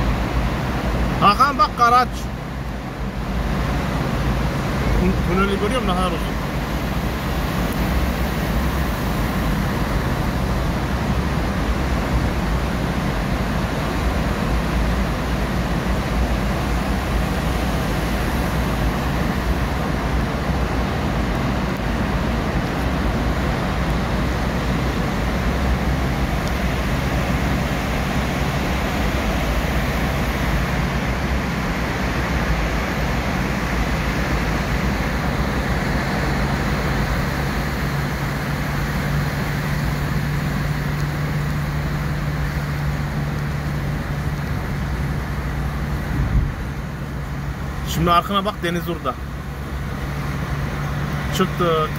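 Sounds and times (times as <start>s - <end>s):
car road and engine rumble: 0.0s - 51.9s.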